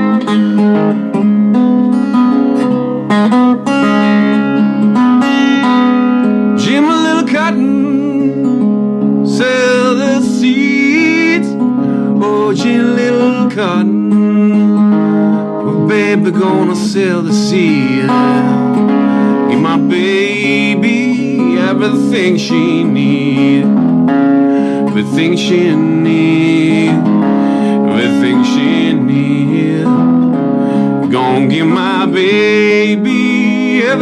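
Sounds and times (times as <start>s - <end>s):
acoustic blues guitar: 0.0s - 34.0s.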